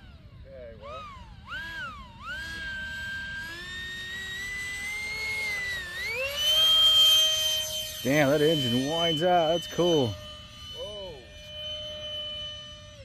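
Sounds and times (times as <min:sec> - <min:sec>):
model jet fan whining: 0:00.0 - 0:13.0.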